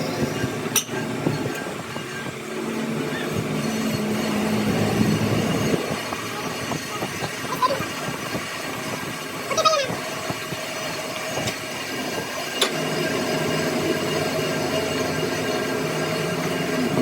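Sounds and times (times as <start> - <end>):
metalworking machinery running: 0.0 - 17.0
steady machine hum: 0.0 - 17.0.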